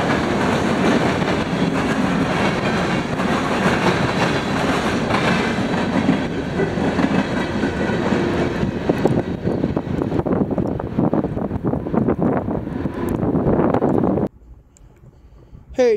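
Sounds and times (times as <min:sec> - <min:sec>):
freight train passing: 0:00.0 - 0:14.3.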